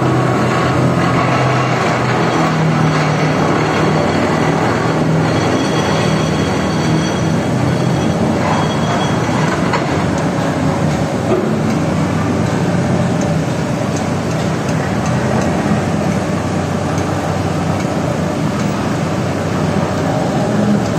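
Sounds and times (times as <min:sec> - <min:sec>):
piling rig engine and hydraulic drive: 0:00.0 - 0:20.9.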